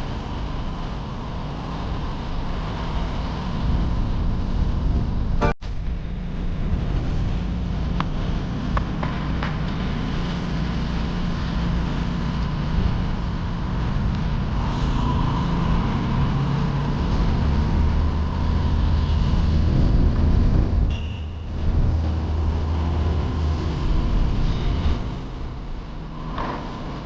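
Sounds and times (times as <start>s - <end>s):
street traffic rumbling: 0.0s - 27.0s
vehicle engine: 0.0s - 27.0s.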